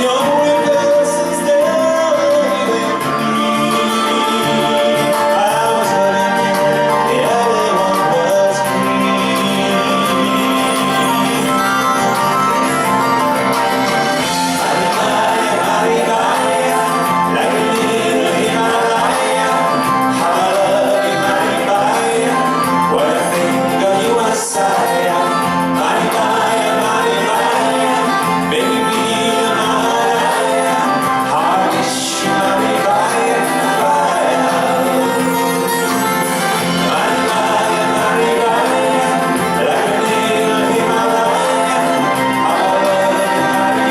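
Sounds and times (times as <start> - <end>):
live pop band: 0.0 - 43.9
person singing: 0.0 - 43.9.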